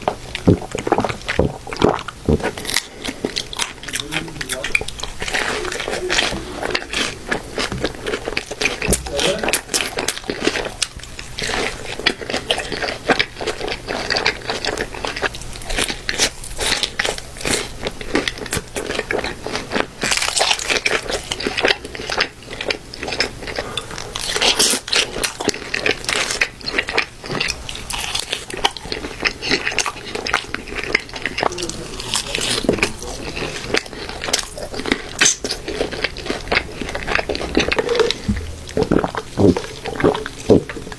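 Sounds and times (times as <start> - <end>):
crunchy bites and chewing: 0.0 - 40.9.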